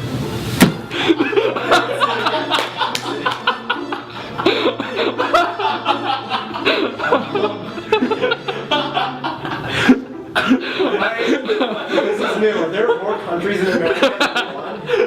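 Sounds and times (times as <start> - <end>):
people laughing: 0.8 - 15.0.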